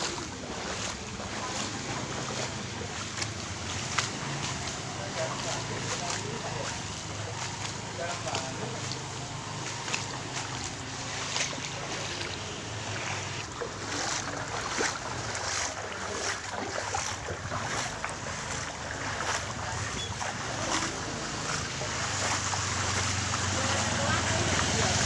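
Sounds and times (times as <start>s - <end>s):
splashing through floodwater: 0.0s - 25.0s.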